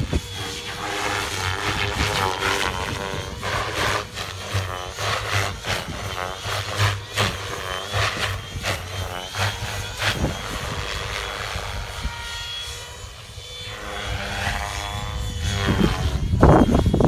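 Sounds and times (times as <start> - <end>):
rc helicopter rotor whine: 0.0 - 17.0
wind buffeting microphone: 0.0 - 17.0.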